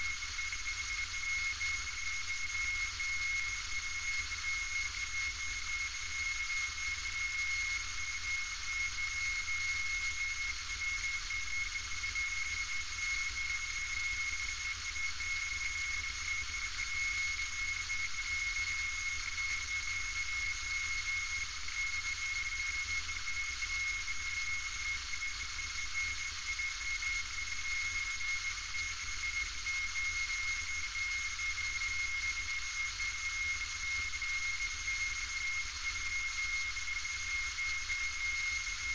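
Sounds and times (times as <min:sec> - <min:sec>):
constant high whine: 0:00.0 - 0:38.9.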